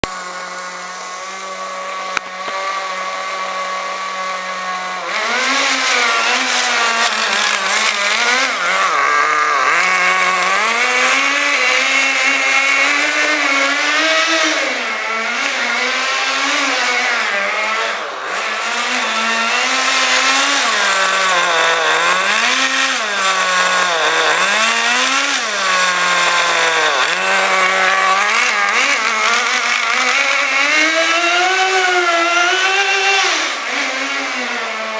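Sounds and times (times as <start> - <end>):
model car engine revving: 0.0 - 34.9.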